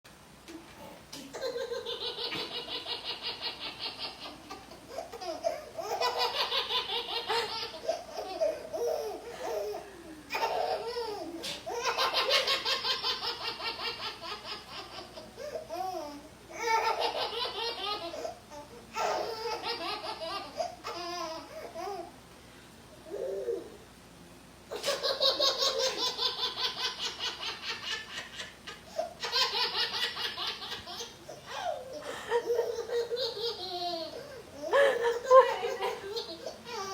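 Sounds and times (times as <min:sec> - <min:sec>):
baby laughing: 0:01.2 - 0:22.1, 0:24.7 - 0:36.9.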